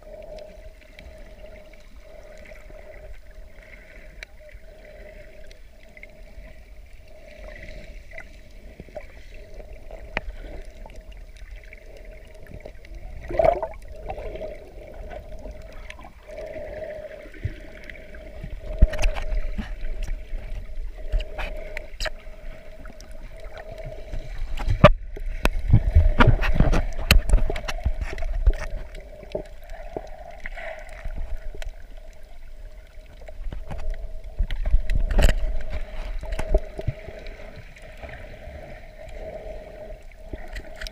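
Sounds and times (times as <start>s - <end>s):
water sloshing and gurgling: 0.0s - 40.9s
surging water rumbles: 5.9s - 40.9s.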